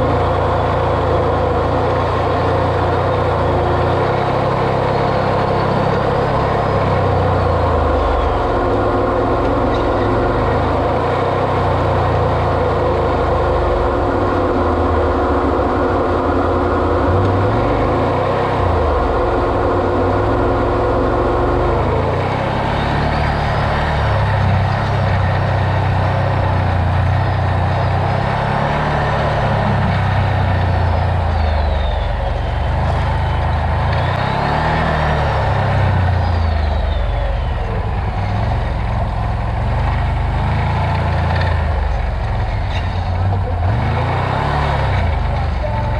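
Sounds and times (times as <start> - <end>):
off-road vehicle engine revving: 0.0 - 45.9
steady whine: 0.0 - 45.9.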